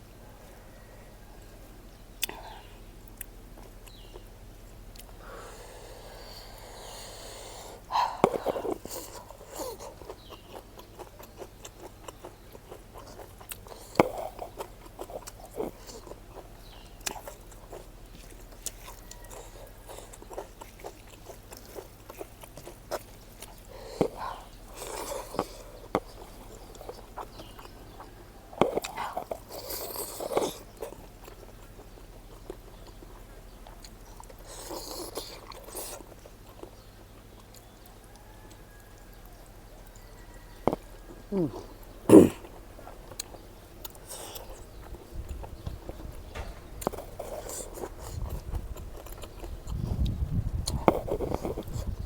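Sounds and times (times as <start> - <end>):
person chewing and biting: 3.1 - 37.8, 38.5 - 46.1, 46.7 - 52.0.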